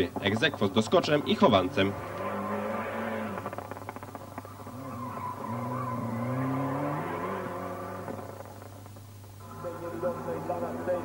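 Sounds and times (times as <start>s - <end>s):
rally car engine accelerating: 0.0s - 11.0s
tyres squealing: 0.0s - 11.0s.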